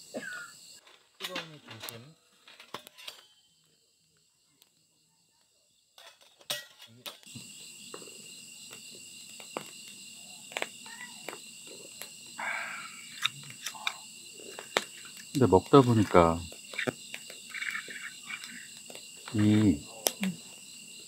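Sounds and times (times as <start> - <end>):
night insects chirping: 0.0 - 21.0.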